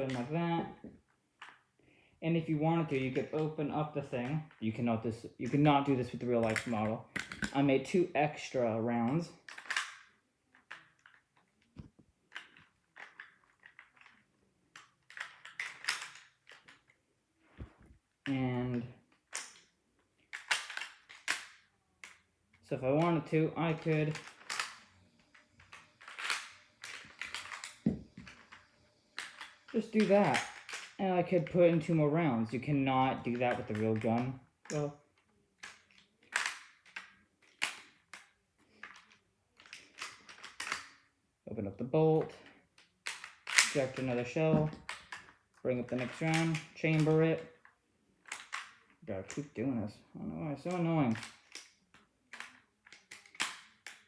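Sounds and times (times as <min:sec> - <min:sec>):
plastic blocks clicking and rattling: 0:00.0 - 0:01.8, 0:02.7 - 0:41.2, 0:42.1 - 0:49.9, 0:50.5 - 0:54.0.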